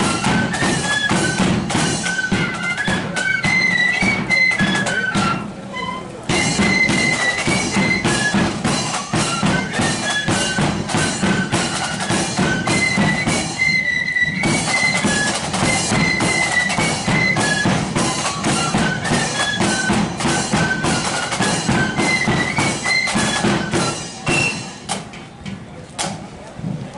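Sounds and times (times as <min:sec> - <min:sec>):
flutes playing melody: 0:00.0 - 0:24.9
snare and bass drums march: 0:00.0 - 0:25.2.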